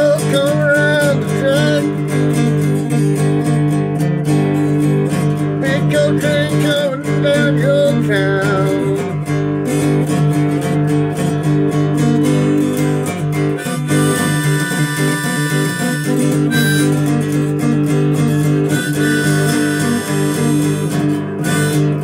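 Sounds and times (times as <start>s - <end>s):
acoustic guitar strumming: 0.0s - 22.0s
harmonica melody: 0.0s - 22.0s.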